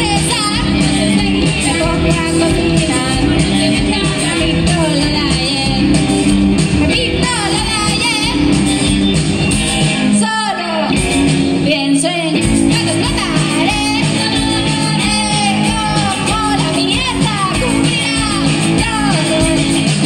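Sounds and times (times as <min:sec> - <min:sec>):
woman singing: 0:00.0 - 0:08.7, 0:10.1 - 0:20.0
rock band playing: 0:00.0 - 0:20.0.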